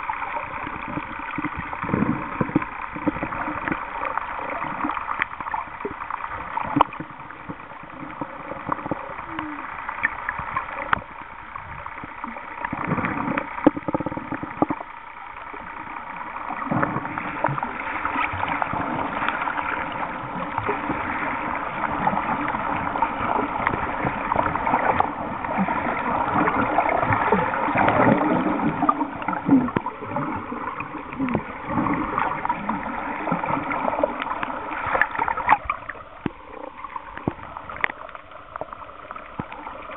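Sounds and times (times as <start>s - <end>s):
small clicks and knocks underwater: 0.0s - 39.9s
underwater water rushing and gurgling: 0.0s - 39.9s.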